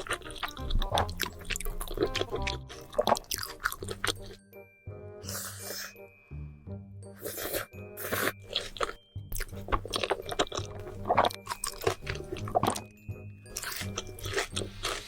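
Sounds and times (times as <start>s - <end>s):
noodles slurped and chewed: 0.0s - 4.4s, 5.2s - 6.0s, 7.2s - 12.9s, 13.5s - 15.0s
background music: 0.0s - 15.0s.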